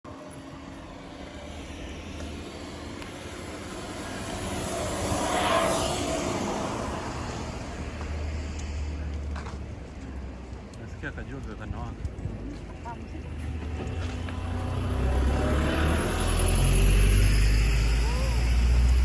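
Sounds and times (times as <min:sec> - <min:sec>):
vehicle driving past: 0:00.2 - 0:10.4, 0:13.2 - 0:19.0.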